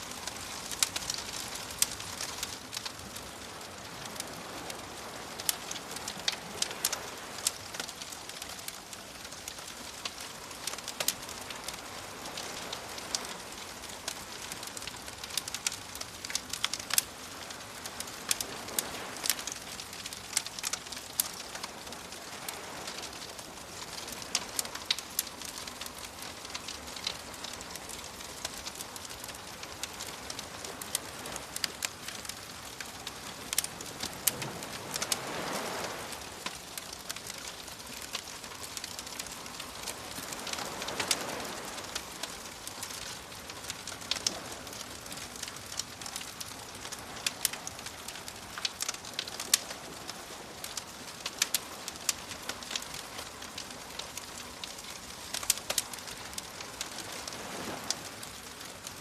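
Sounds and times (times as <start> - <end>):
soft surf hiss: 0.0 - 59.0
wood fire crackling and popping: 0.0 - 59.0.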